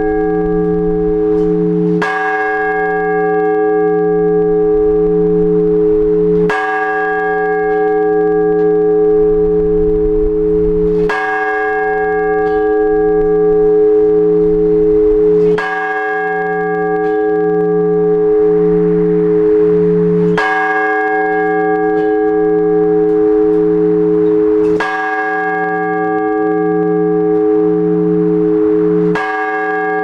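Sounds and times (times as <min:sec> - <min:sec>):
large church bell ringing: 0:00.0 - 0:30.0.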